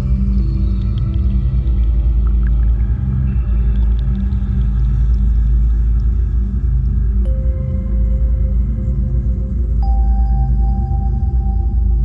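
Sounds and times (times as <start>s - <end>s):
ambient drone music: 0.0s - 12.0s.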